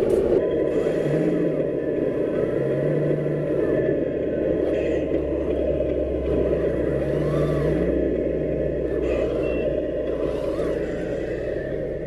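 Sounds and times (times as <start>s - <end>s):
faint whine: 0.0s - 12.0s
toy truck engine rumble: 0.0s - 12.0s.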